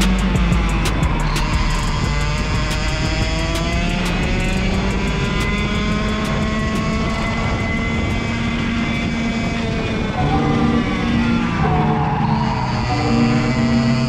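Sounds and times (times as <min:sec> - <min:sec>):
kart engine at high revs: 0:00.0 - 0:14.0.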